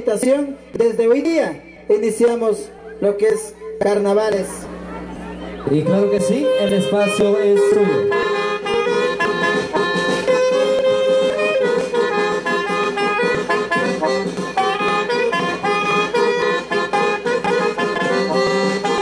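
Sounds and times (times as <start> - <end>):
accordion playing fast dance tune: 1.9 - 19.0.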